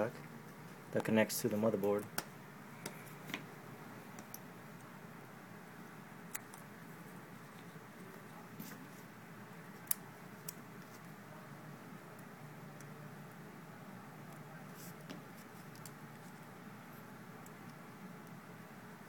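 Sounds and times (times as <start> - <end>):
low hiss: 0.0 - 19.0.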